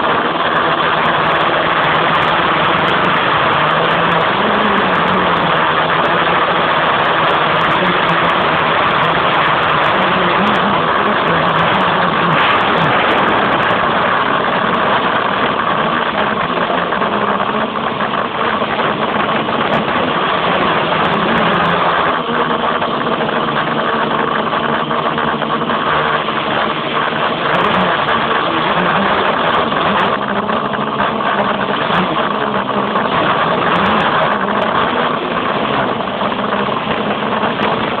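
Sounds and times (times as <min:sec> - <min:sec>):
drone propellers buzzing: 0:00.0 - 0:38.0.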